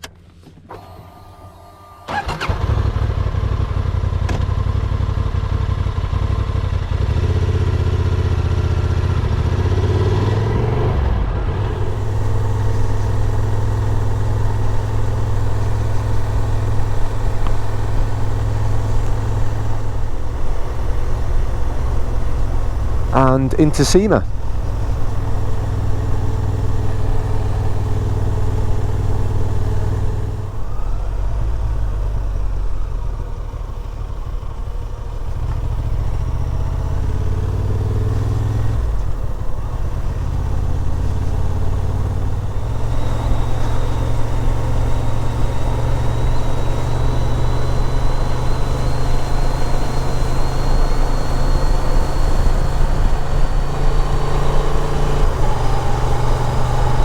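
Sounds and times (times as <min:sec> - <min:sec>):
motorcycle engine and exhaust: 0:02.1 - 0:23.4, 0:24.3 - 0:57.0
wind and road noise: 0:08.2 - 0:57.0.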